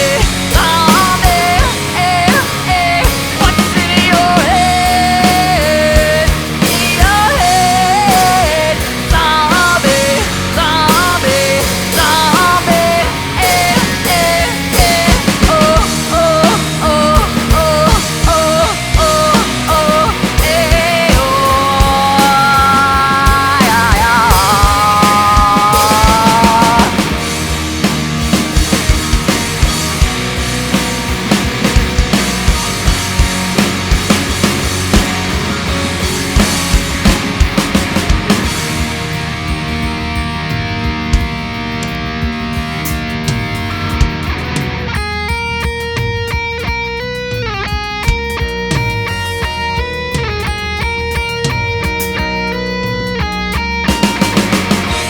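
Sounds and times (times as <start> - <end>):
bass guitar: 0.0 - 55.0
drums steady beat: 0.0 - 55.0
electric guitar chords: 0.0 - 55.0
lead guitar with string bends: 0.0 - 55.0
live rock band instrumental: 0.0 - 55.0.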